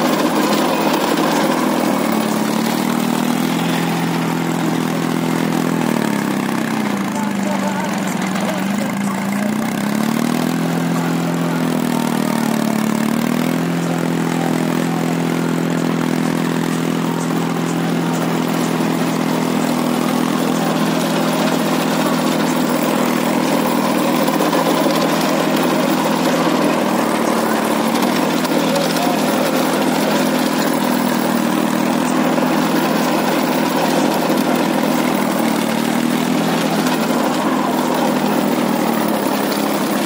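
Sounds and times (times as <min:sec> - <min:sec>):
rotavator churning soil: 0:00.0 - 0:40.0
tractor diesel engine running: 0:00.0 - 0:40.0.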